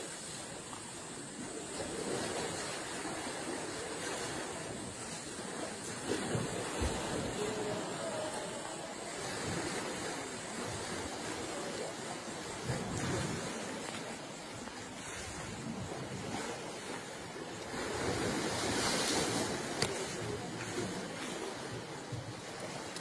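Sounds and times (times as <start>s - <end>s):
pool water churning and splashing: 0.0s - 23.0s
heavy splash: 1.4s - 23.0s.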